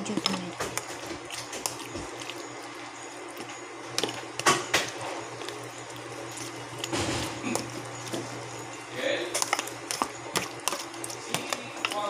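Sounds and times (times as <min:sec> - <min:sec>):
steady low hum: 0:00.0 - 0:12.0
wet squelching: 0:00.0 - 0:12.0.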